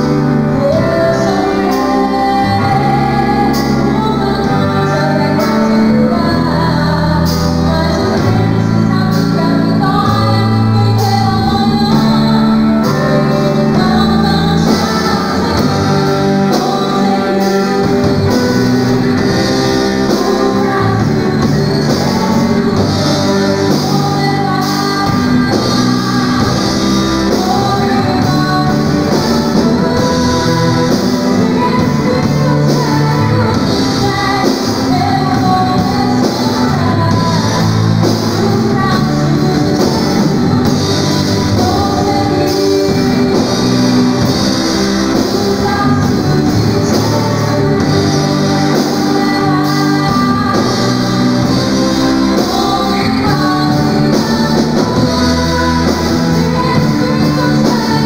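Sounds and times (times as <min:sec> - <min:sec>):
live band playing gospel: 0:00.0 - 0:58.0
woman singing: 0:00.0 - 0:58.0.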